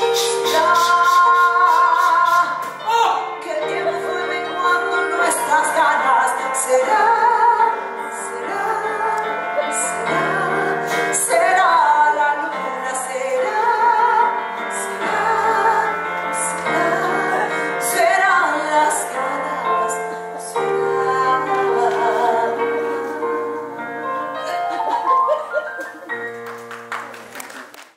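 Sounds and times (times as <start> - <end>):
woman singing with vibrato: 0.0 - 24.4.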